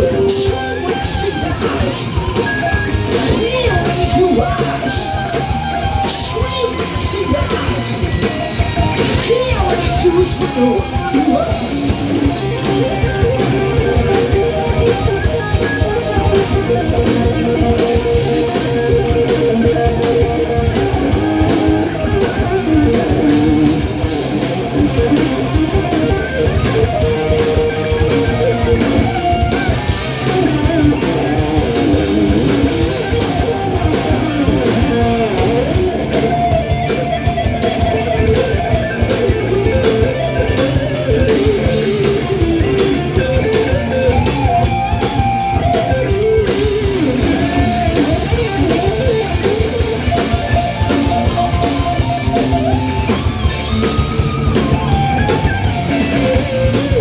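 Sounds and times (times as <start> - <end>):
distorted electric guitars: 0.0 - 57.0
fast drumming: 0.0 - 57.0.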